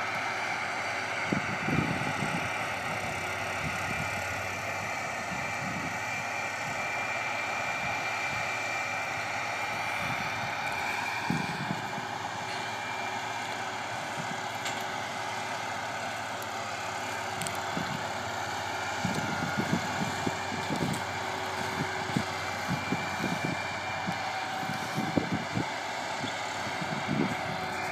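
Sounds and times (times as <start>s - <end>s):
distant tractor running: 0.0s - 27.9s.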